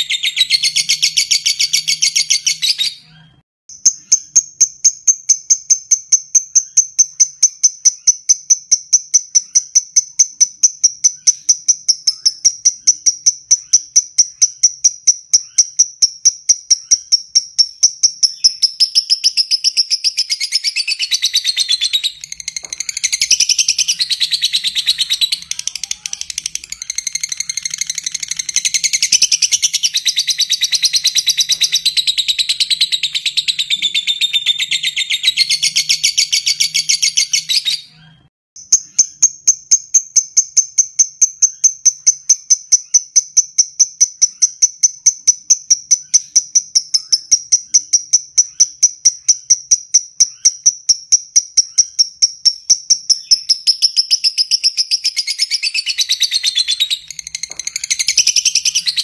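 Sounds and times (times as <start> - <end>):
lovebird chattering: 0.0 - 38.0, 40.0 - 59.0.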